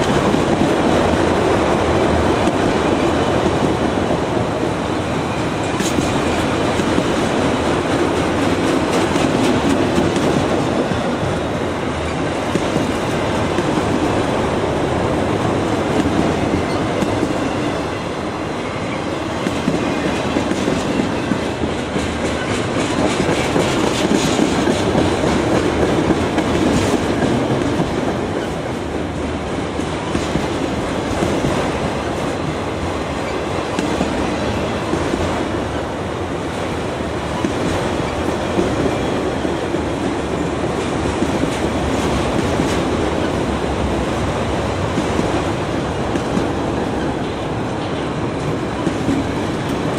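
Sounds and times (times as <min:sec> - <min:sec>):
train wheels clicking on rails: 0:00.0 - 0:49.9.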